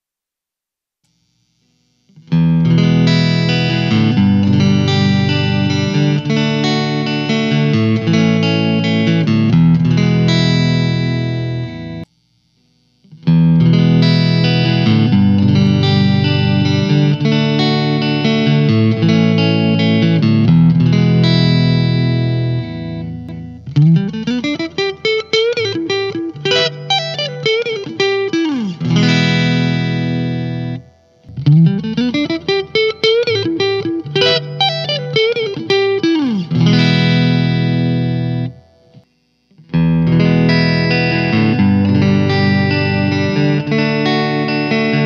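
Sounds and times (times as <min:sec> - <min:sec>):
clean electric guitar: 0:01.2 - 0:45.0.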